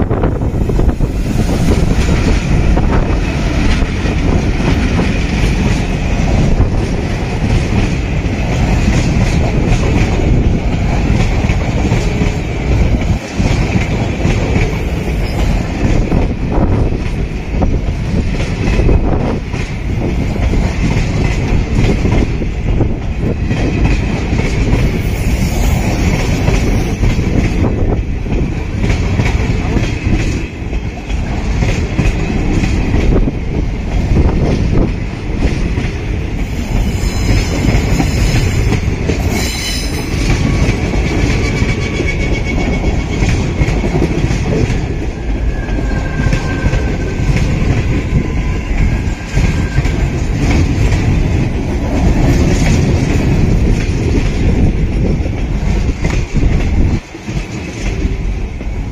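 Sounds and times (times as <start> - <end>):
diesel locomotive passing: 0.0 - 58.9
train coaches rumbling: 0.0 - 58.9.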